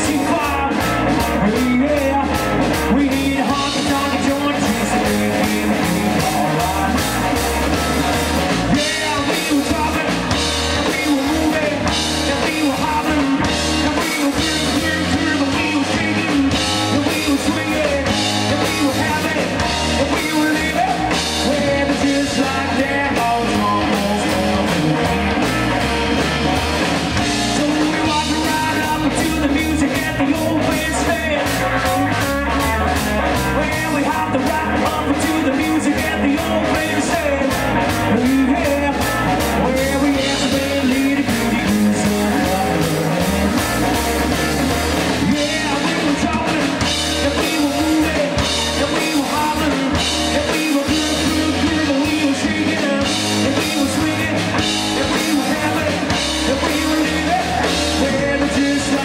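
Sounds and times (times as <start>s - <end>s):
bass line: 0.0s - 59.0s
drum kit beat: 0.0s - 59.0s
pitch-bending lead line: 0.0s - 59.0s.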